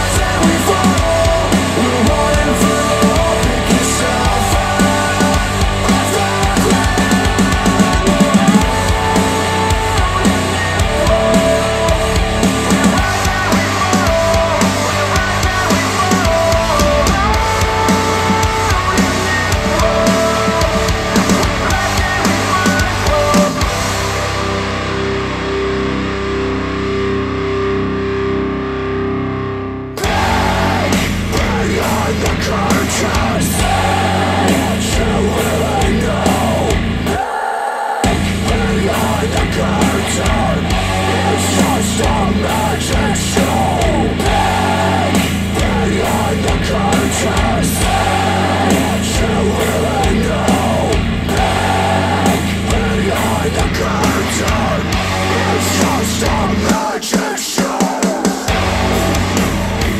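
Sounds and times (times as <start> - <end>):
death metal music from speakers: 0.0 - 37.2, 38.0 - 56.9, 58.5 - 59.9.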